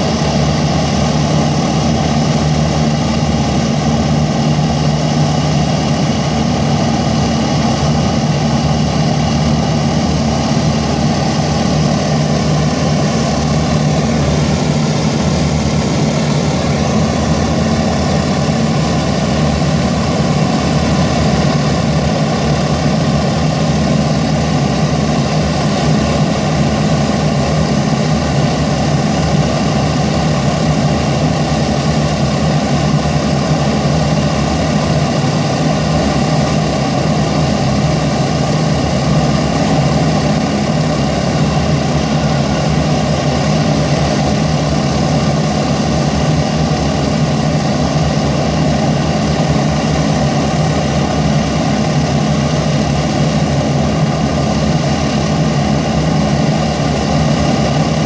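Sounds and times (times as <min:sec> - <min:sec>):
piston aircraft engines droning: 0:00.0 - 0:58.0.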